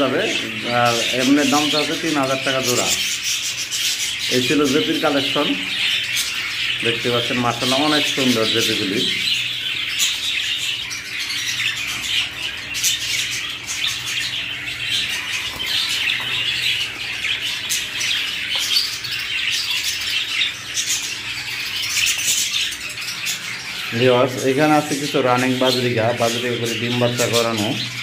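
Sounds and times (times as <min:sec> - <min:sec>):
cage birds chirping: 0:00.0 - 0:28.0.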